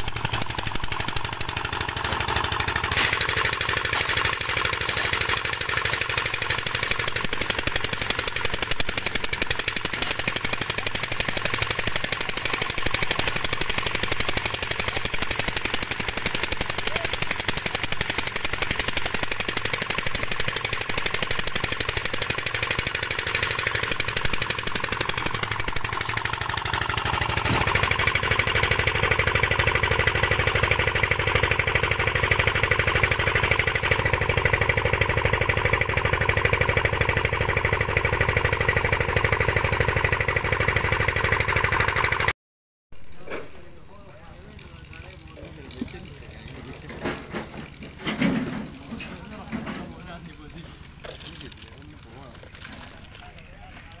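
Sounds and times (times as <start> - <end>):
concrete mixer engine knocking: 0.0 - 42.3, 43.0 - 54.0.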